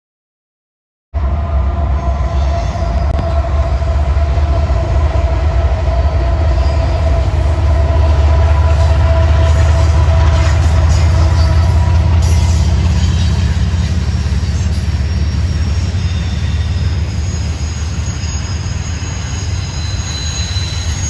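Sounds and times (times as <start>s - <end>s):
locomotive engine rumble: 1.2s - 21.0s.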